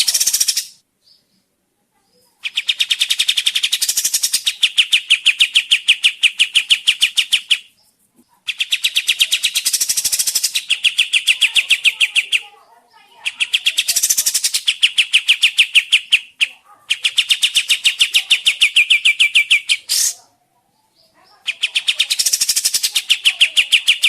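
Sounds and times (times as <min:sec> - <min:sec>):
bird singing fast trill: 0:00.0 - 0:01.3, 0:02.4 - 0:07.9, 0:08.5 - 0:20.2, 0:20.8 - 0:24.0.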